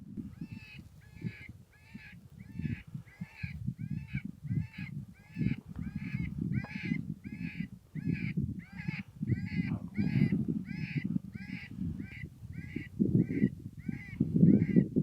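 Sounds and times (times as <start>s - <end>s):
harsh crow-like bird calls: 0.4s - 14.9s.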